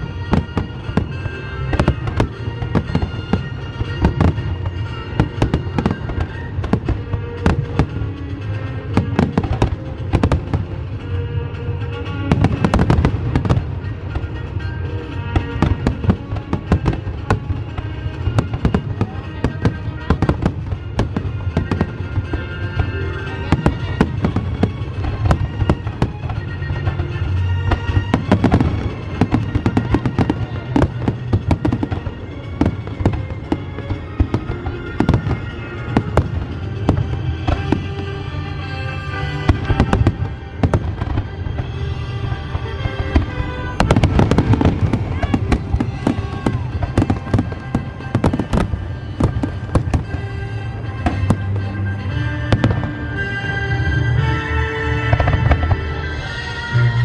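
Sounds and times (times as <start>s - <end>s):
fireworks bangs and crackles: 0.0s - 57.0s
music with held tones: 0.0s - 57.0s.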